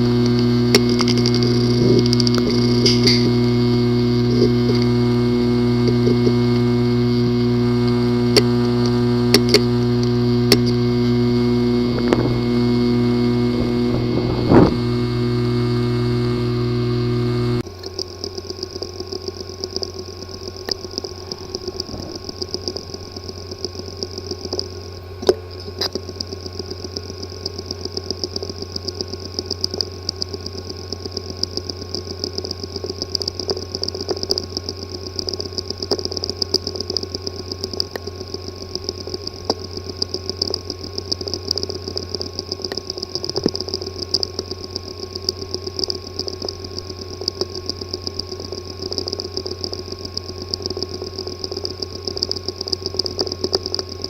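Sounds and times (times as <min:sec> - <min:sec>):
hard drive buzzing whir: 0:00.0 - 0:54.0
hard drive fast ticking: 0:00.0 - 0:54.0
hard drive sharp click: 0:00.0 - 0:54.0.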